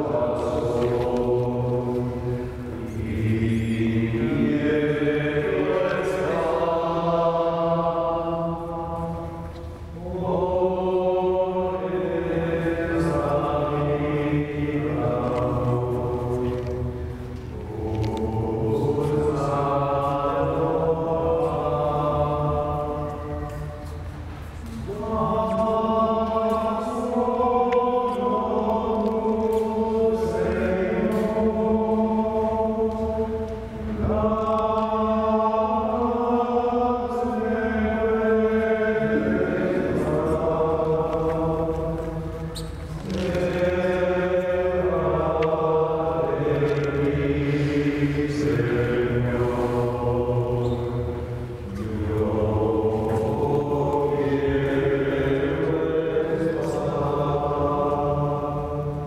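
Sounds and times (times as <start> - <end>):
slow sung chant: 0.0 - 59.0.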